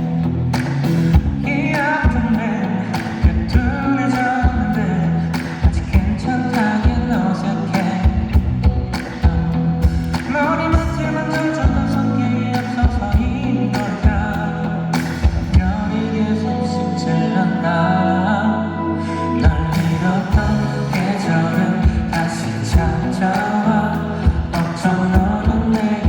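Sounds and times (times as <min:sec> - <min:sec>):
steady drum beat: 0:00.0 - 0:12.1, 0:12.7 - 0:15.8, 0:19.5 - 0:26.0
person singing: 0:00.0 - 0:26.0
pop backing track with bass: 0:00.0 - 0:26.0.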